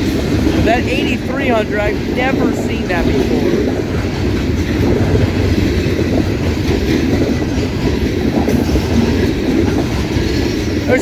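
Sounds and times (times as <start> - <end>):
clattering over rail joints: 0.0 - 11.0
freight train wheels rumbling: 0.0 - 11.0.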